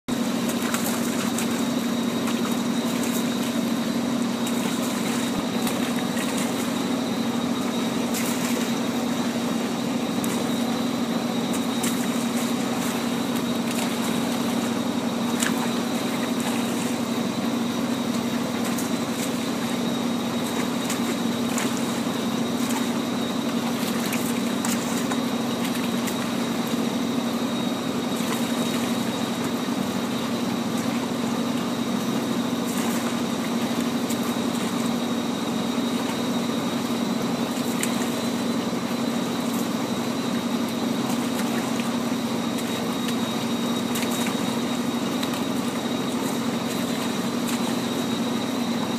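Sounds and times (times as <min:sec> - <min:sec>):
fish splashing in water: 0:00.1 - 0:48.9
motor humming: 0:00.1 - 0:48.9.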